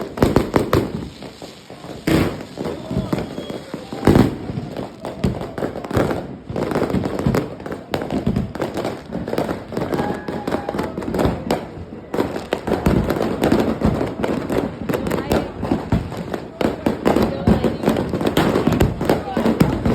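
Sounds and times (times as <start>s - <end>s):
fireworks bangs and pops: 0.0s - 19.9s.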